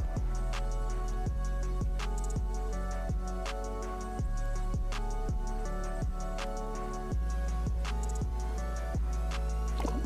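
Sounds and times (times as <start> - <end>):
fast ticking hi-hats: 0.0 - 10.0.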